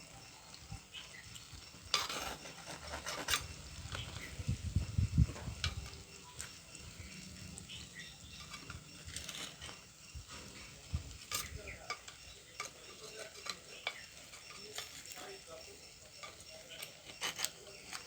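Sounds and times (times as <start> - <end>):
cooking pot scrapes and clinks: 0.2 - 18.0.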